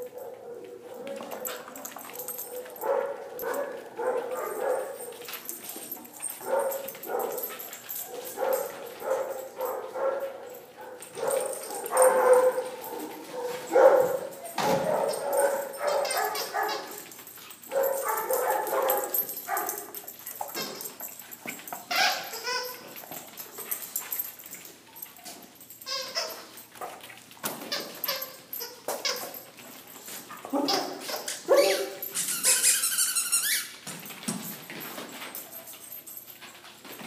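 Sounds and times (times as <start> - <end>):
dogs barking and yipping: 0.0 - 33.8.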